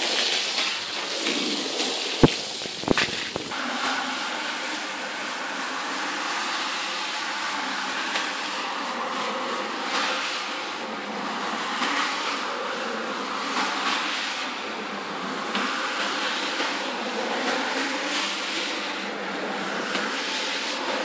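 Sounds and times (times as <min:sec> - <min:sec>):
scrubbing machine on wet carpet: 0:00.0 - 0:21.0.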